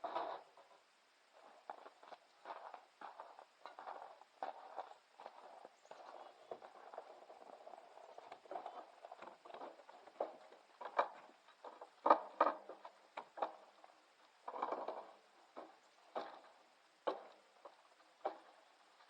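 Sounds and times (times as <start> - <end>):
scuffing: 1.4 - 19.0.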